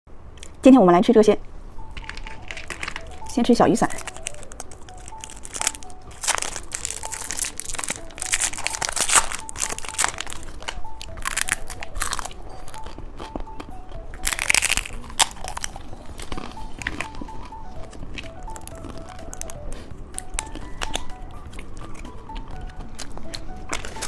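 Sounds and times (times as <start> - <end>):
quiet background music: 0.1 - 24.0
crunching and chewing candy: 1.9 - 24.0.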